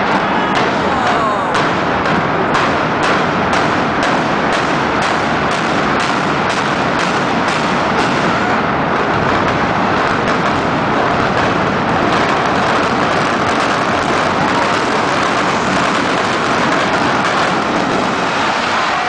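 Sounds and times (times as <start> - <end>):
demolition blasts rumbling: 0.0 - 19.0.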